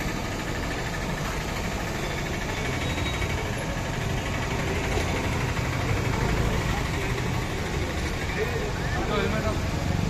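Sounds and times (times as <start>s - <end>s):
vehicle engines rumbling: 0.0s - 10.0s.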